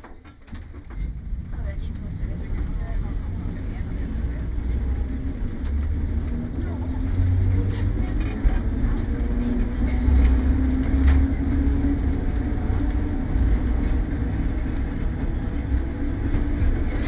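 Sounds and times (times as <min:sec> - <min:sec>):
tram rumbling on rails: 0:00.0 - 0:17.0.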